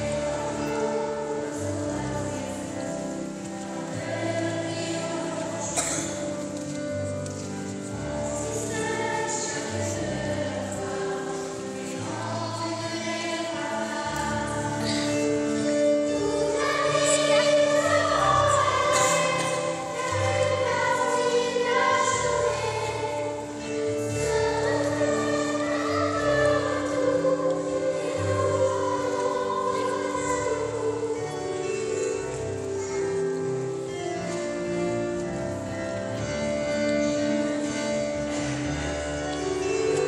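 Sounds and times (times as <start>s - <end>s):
children's choir singing: 0.0s - 40.0s.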